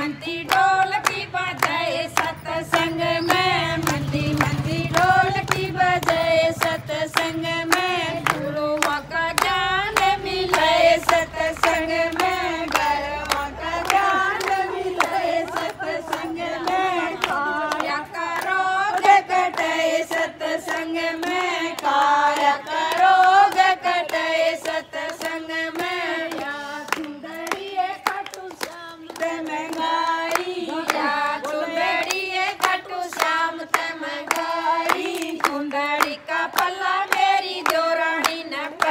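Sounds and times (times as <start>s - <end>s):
rhythmic hand clapping: 0.0s - 38.9s
women singing devotional song: 0.0s - 38.9s.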